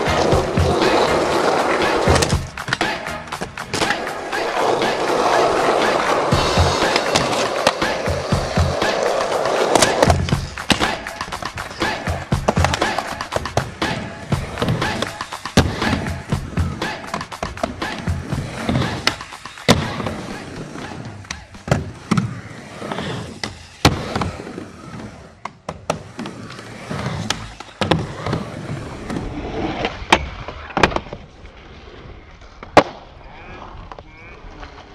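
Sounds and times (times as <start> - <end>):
skateboard wheels rolling: 0.0 - 34.9.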